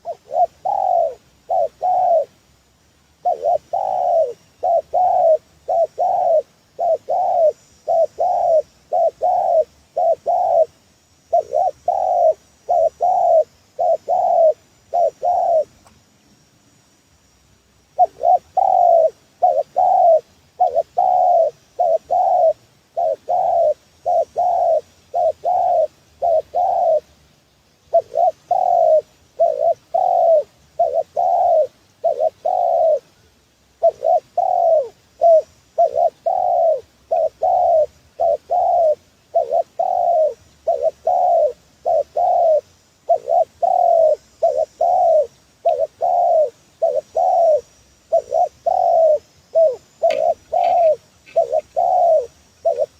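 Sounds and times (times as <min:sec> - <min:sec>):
dove cooing: 0:00.0 - 0:02.4, 0:03.2 - 0:15.8, 0:17.9 - 0:27.1, 0:27.9 - 0:33.2, 0:33.8 - 0:52.9.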